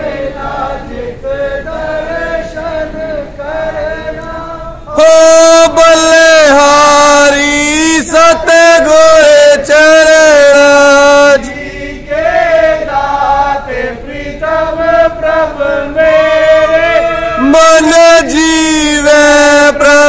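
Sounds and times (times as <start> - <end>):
devotional chanting: 0.0 - 20.0.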